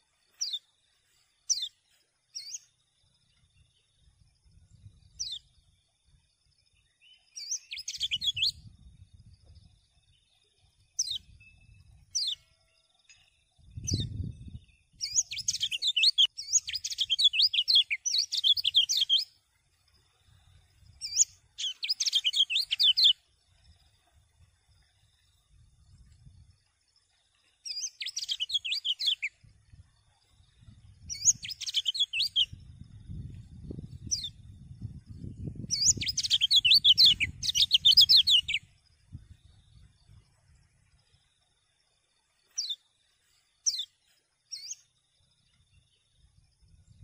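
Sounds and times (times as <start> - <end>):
bird chirping: 0.0 - 47.0
bird warbling song: 0.2 - 5.9, 6.7 - 41.3, 42.2 - 47.0.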